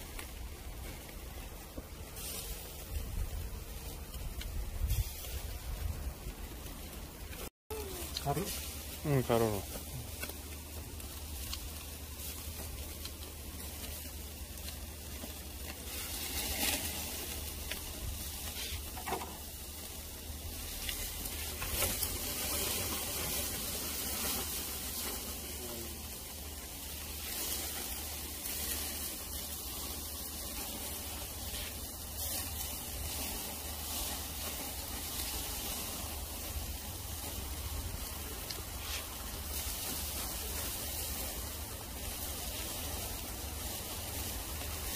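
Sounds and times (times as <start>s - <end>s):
meat sizzling on a grill: 0.0s - 44.9s
sharp crackles: 0.0s - 44.9s.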